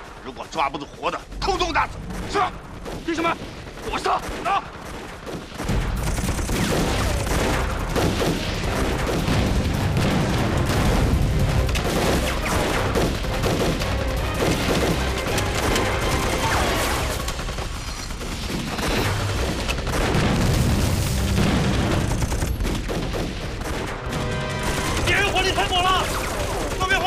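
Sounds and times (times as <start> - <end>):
dense gunfire from rifles and pistols: 0.0 - 27.0.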